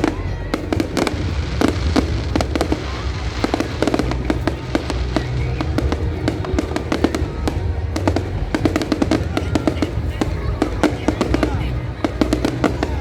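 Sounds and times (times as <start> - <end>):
fireworks bangs and crackles: 0.0 - 13.0
low rumble: 0.0 - 13.0
music playing: 0.0 - 13.0.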